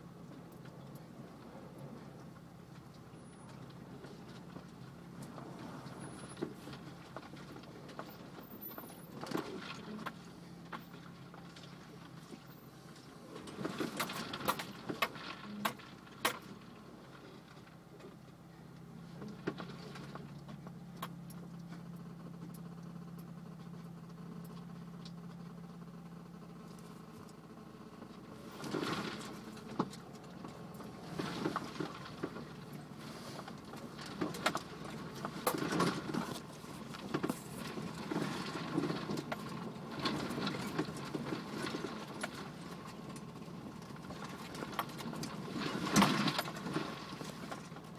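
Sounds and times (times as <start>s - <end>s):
engine running low: 0.0s - 47.9s.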